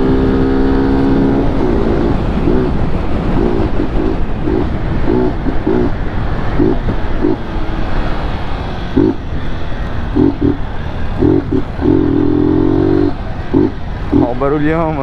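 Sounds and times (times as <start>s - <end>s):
motorcycle engine: 0.0s - 15.0s
wind and road noise: 0.0s - 15.0s.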